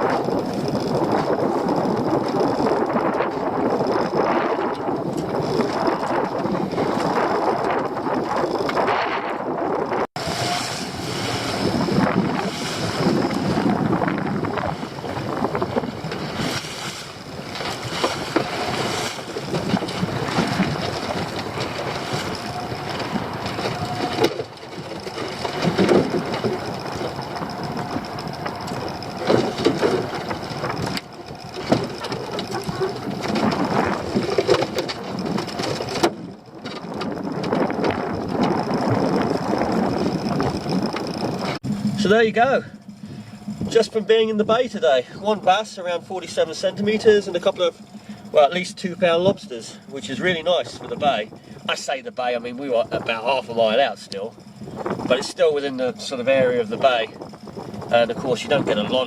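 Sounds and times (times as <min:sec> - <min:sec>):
boat knocks and clatters: 0:00.0 - 0:59.0
water and hull noise: 0:00.0 - 0:59.0
wind buffeting microphone: 0:00.0 - 0:59.0.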